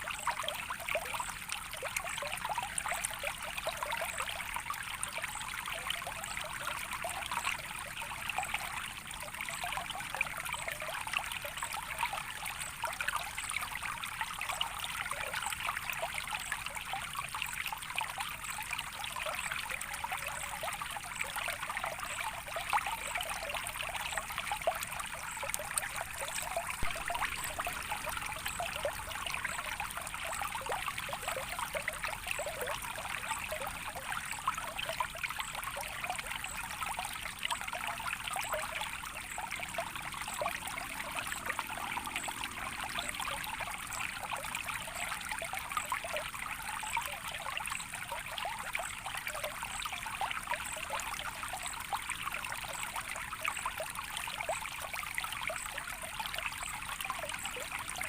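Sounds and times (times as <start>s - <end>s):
stream trickling and babbling: 0.0s - 58.0s.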